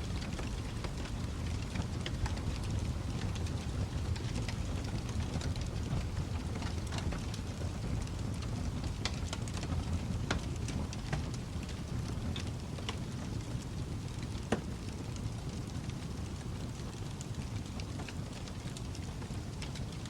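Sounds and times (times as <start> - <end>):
fire flames rumbling: 0.0 - 20.0
fire pops and snaps: 0.0 - 20.0.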